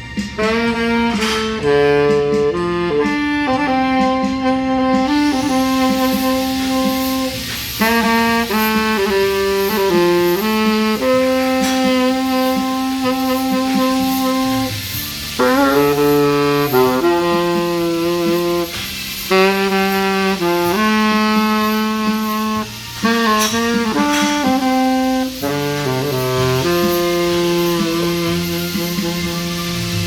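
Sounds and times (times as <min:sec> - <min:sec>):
backing track: 0:00.0 - 0:30.0
wind instrument slow melody: 0:00.0 - 0:30.0.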